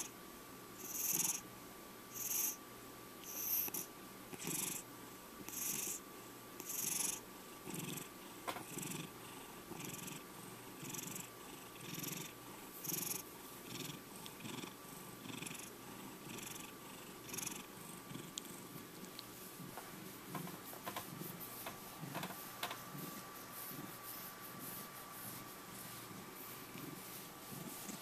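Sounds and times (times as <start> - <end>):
cat purring: 0.8 - 1.4, 3.3 - 4.8, 5.4 - 6.0, 6.6 - 28.0.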